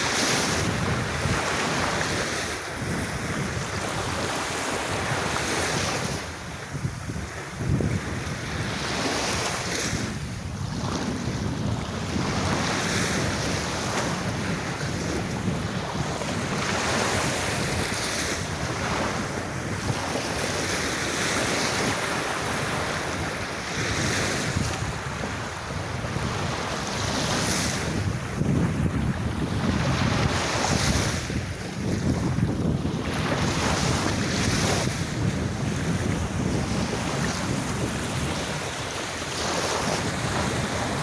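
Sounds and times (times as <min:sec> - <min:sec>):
ocean waves breaking on beach: 0:00.0 - 0:41.0
wind noise on microphone: 0:00.0 - 0:41.0.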